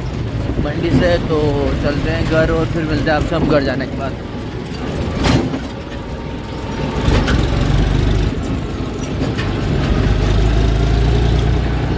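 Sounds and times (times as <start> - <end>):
diesel tractor engine rumbling: 0.0 - 11.9.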